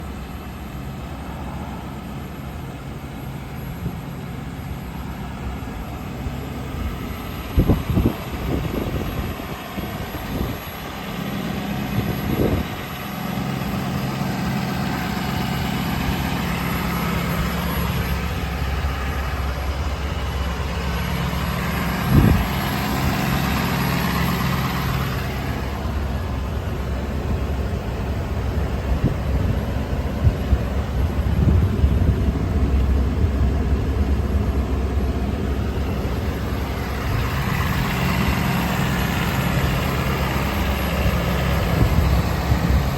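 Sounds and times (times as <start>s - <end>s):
pickup engine idling: 0.0s - 42.9s.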